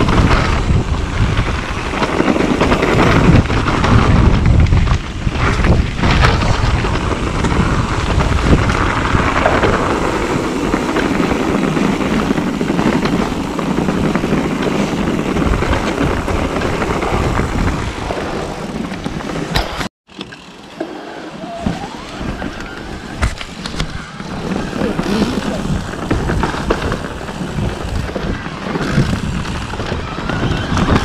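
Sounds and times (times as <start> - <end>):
wind over microphone: 0.0 - 19.9, 21.3 - 31.0
bike rattling and knocking: 0.0 - 20.7, 21.7 - 31.0
tyres rolling on dirt: 0.0 - 31.0.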